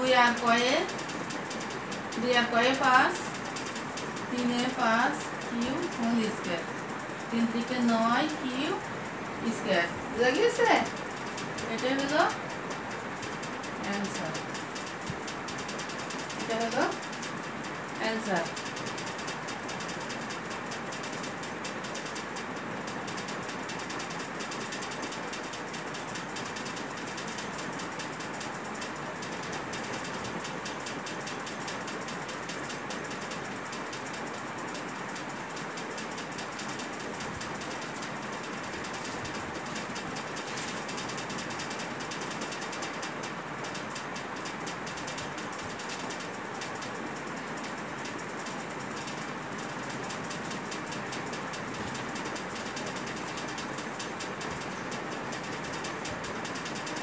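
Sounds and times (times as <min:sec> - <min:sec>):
rapid mechanical clicking: 0:00.0 - 0:57.0.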